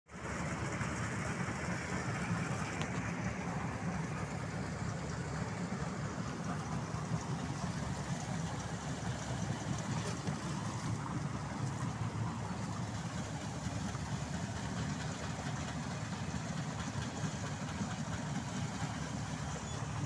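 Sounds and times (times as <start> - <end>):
combine harvester engine droning: 0.1 - 20.0.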